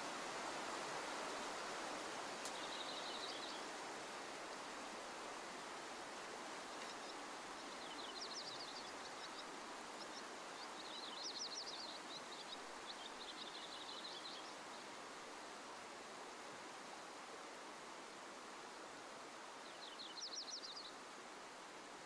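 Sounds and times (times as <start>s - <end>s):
river rushing: 0.0s - 20.1s.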